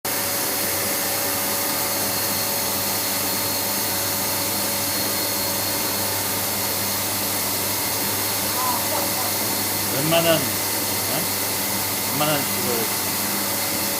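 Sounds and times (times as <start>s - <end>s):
constant machine hums: 0.1s - 13.9s
high machine whine: 0.1s - 13.9s
milling machine cutting hiss: 0.1s - 13.9s.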